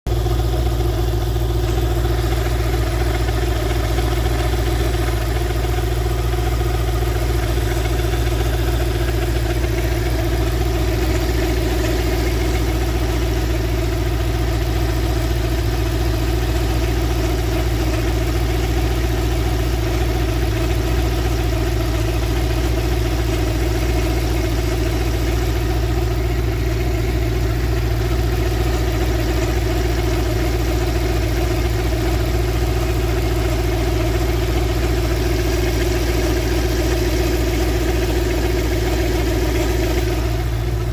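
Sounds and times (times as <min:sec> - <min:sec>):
engine idling: 0:00.1 - 0:40.9.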